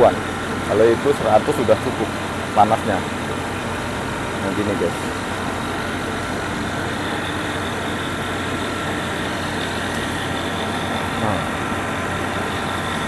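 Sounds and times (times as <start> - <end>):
faint high whine: 0.0 - 13.0
machinery drone with low hum: 0.0 - 13.0.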